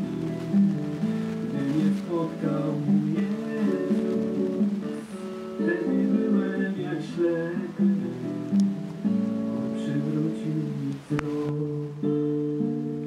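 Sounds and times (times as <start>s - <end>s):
plucked guitar chords: 0.0s - 13.0s.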